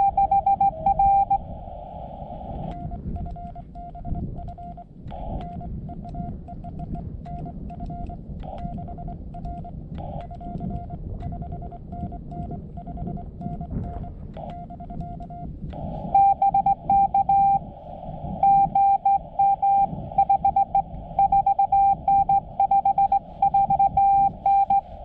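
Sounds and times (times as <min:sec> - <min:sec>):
morse code beeps: 0:00.0 - 0:01.4, 0:02.6 - 0:25.0
radio hiss: 0:00.0 - 0:06.5, 0:08.1 - 0:25.0.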